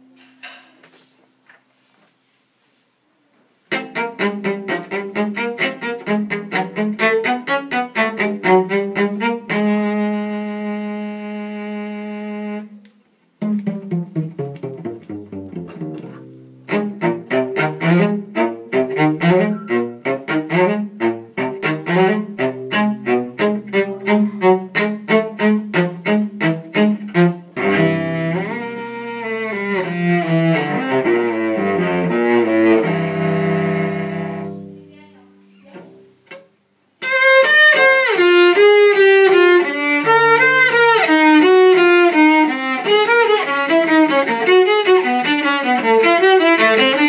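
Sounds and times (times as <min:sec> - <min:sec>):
bowed cello: 0:03.7 - 0:12.8, 0:13.4 - 0:34.9, 0:35.6 - 0:47.0.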